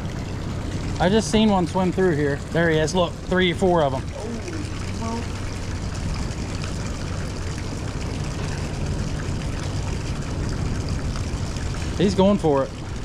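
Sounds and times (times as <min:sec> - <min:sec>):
boat engine drone: 0:00.0 - 0:13.0
water washing: 0:00.0 - 0:13.0.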